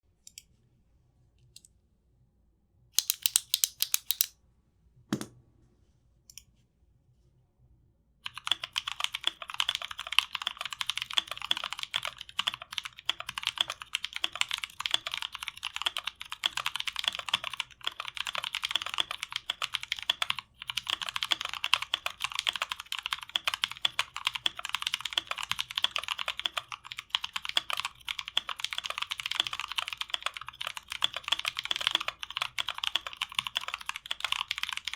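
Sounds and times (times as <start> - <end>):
mechanical keyboard typing: 3.0 - 4.3, 8.3 - 34.9.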